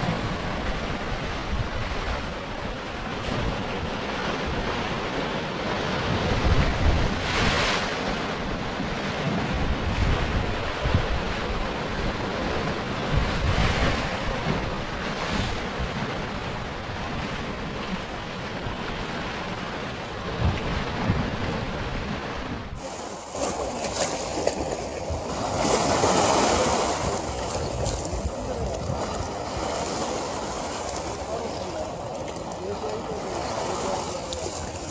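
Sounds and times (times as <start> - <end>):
rushing water: 0.0 - 34.9
sea waves breaking: 0.0 - 34.9.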